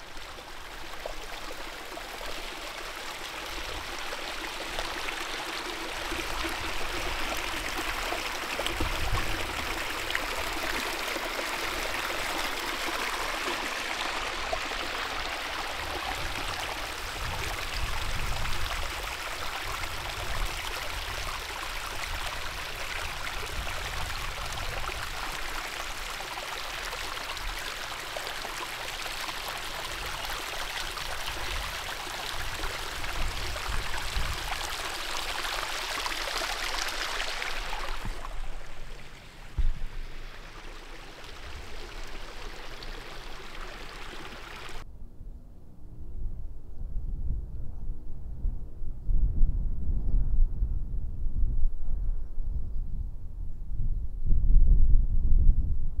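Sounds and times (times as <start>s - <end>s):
brook running over rocks: 0.0s - 44.8s.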